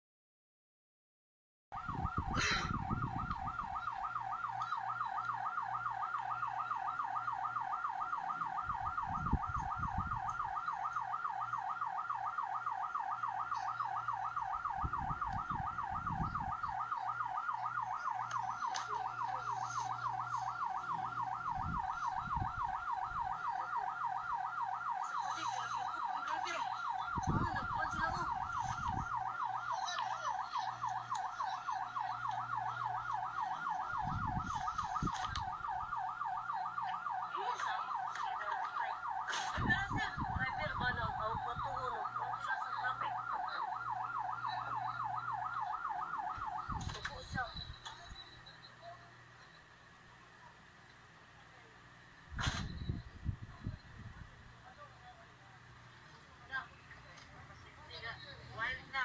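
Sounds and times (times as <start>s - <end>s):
ambulance siren warbling: 1.7s - 49.8s.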